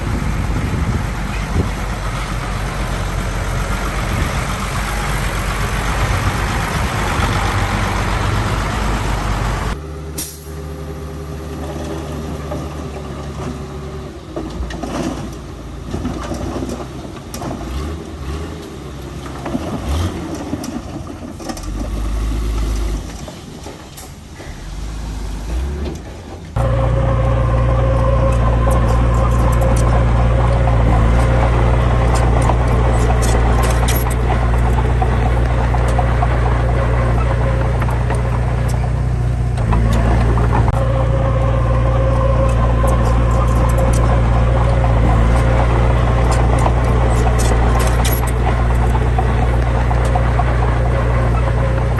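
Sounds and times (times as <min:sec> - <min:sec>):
diesel machinery engine: 0:00.0 - 0:51.9
engine whine: 0:00.0 - 0:51.9.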